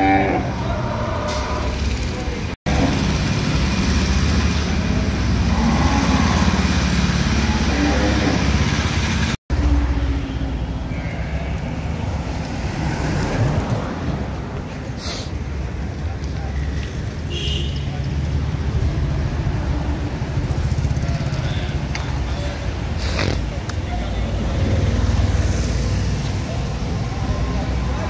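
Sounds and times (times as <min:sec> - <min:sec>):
road traffic engine noise: 0:00.0 - 0:28.0.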